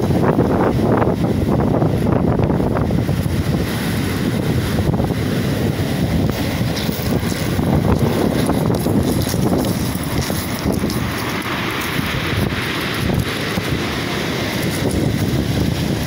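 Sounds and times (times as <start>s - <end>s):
wind buffeting microphone: 0.0s - 16.0s
surf breaking on pebble beach: 1.9s - 16.0s.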